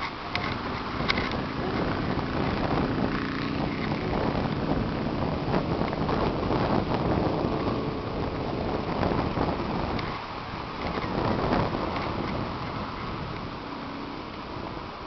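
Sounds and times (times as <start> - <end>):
faint motor-like hum: 0.0 - 15.0
wind buffeting microphone: 0.0 - 15.0.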